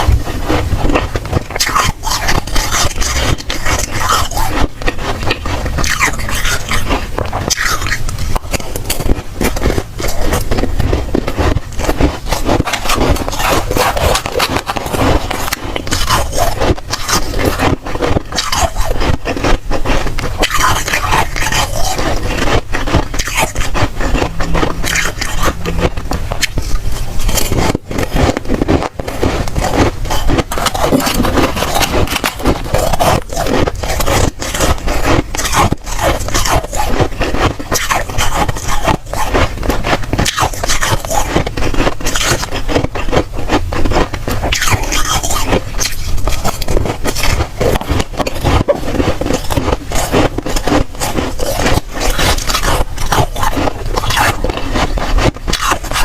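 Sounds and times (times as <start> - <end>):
freezer frost crunching and scraping: 0.0 - 56.0.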